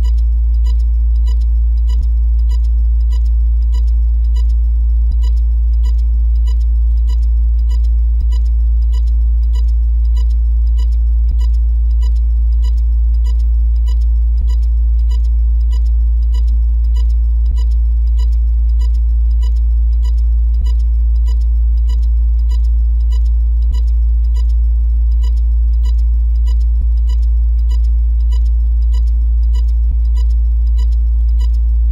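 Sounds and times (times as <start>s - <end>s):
regular ticking: 0.0s - 31.9s.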